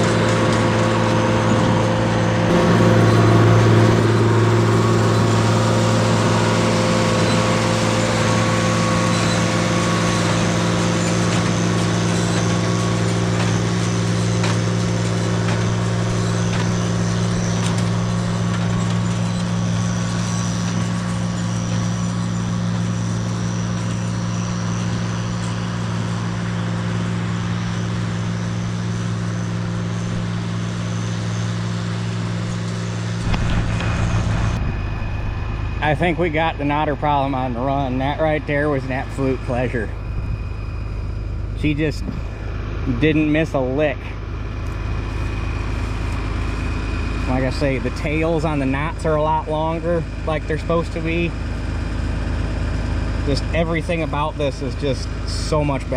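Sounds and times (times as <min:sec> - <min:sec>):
hay baler working: 0:00.0 - 0:55.9
tractor engine running: 0:00.0 - 0:55.9.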